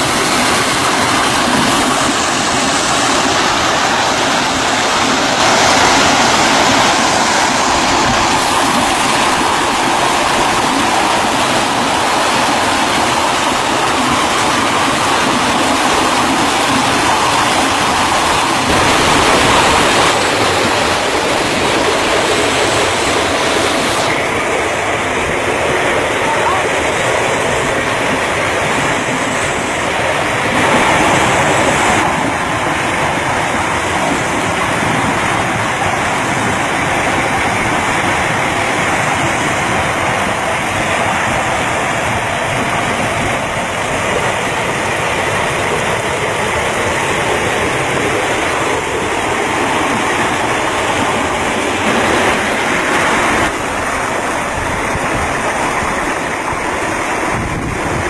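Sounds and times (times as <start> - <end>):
water splashing over rocks: 0.0 - 58.0.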